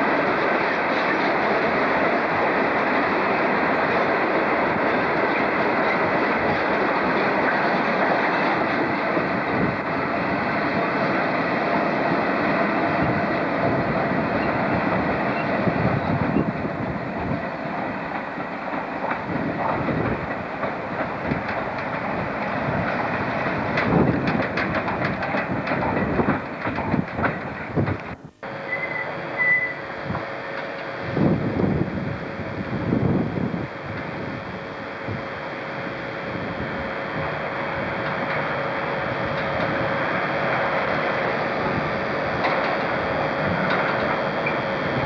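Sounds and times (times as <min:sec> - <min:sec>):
freight train wheels rumbling on rail: 0:00.0 - 0:45.0
wheels clicking over rail joints: 0:00.3 - 0:31.0, 0:37.2 - 0:45.0.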